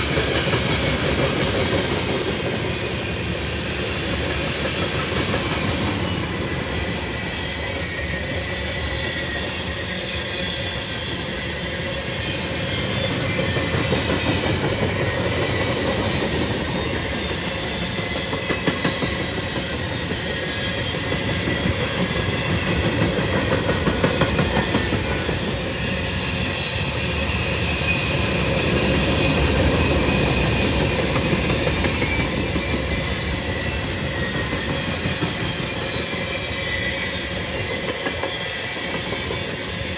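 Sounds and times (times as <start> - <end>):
train wheels clacking over rail joints: 0.0 - 7.0, 12.7 - 39.9
high wheel squeal: 6.0 - 39.9.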